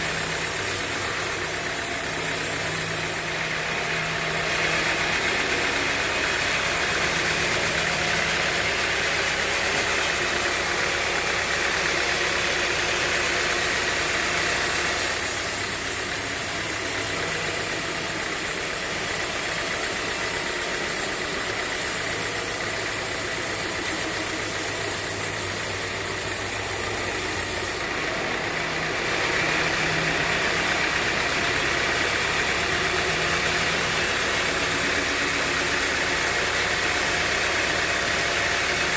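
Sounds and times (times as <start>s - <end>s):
bandsaw running: 0.0s - 38.9s.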